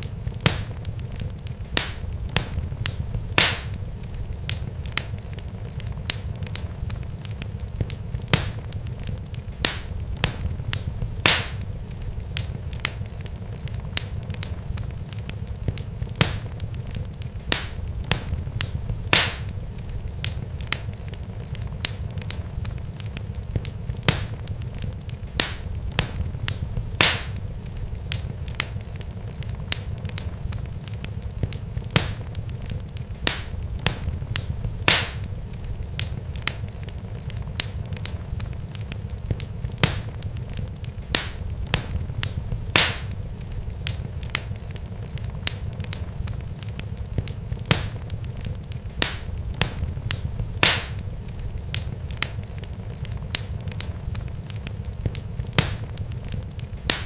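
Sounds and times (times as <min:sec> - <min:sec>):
sharp crackles and pops: 0:00.0 - 0:57.0
steady low rumble: 0:00.0 - 0:57.0.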